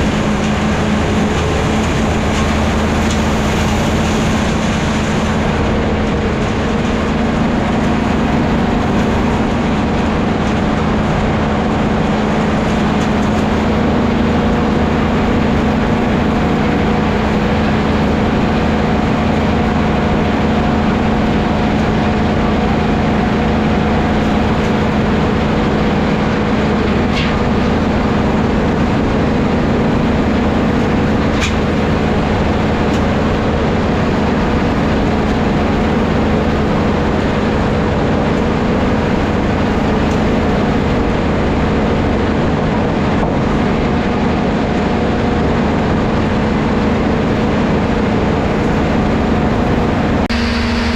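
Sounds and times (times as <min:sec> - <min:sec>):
sawmill machinery humming: 0:00.0 - 0:50.9.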